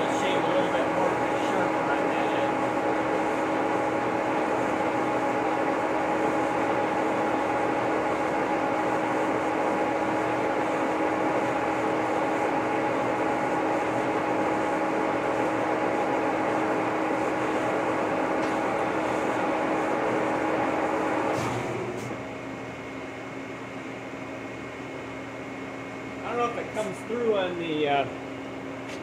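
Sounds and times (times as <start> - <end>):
boring mill humming and whining: 0.0 - 29.0.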